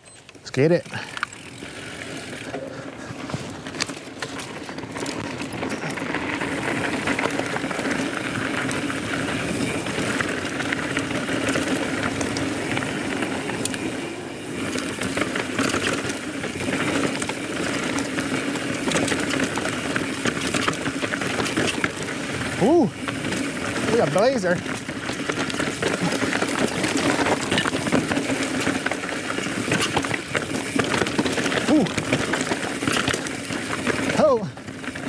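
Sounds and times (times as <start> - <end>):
bike clicks and rattles: 0.0 - 35.0
bike tyres rolling over stones: 0.3 - 35.0.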